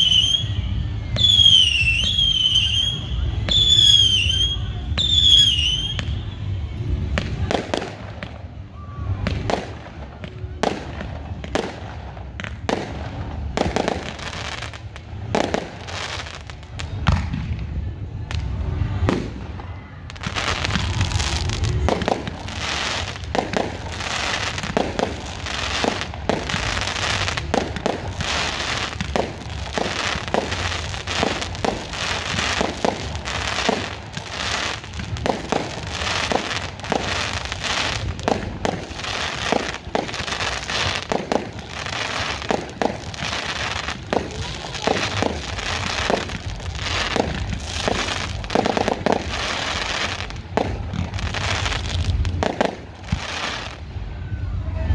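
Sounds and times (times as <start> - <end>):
fireworks bangs and crackles: 0.0 - 54.6.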